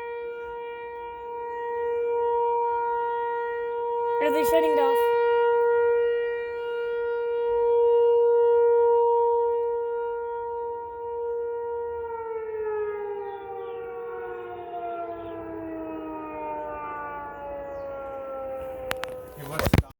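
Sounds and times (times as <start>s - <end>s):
warning siren winding down: 0.0s - 19.9s.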